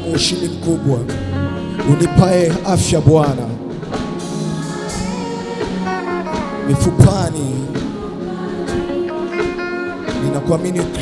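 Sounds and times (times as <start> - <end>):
person singing: 0.0 - 3.6, 4.4 - 11.0
keyboard chords: 0.0 - 11.0.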